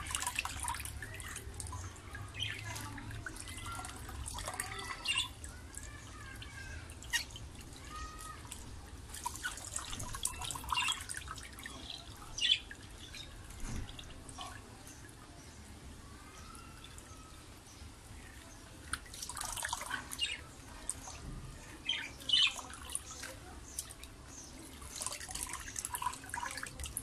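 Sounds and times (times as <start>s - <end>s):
water splashing and dripping: 0.0s - 27.0s.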